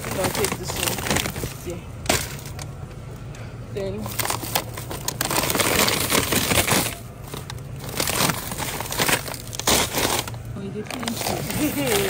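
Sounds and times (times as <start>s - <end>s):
crinkling and rustling: 0.0s - 3.0s, 4.0s - 12.0s.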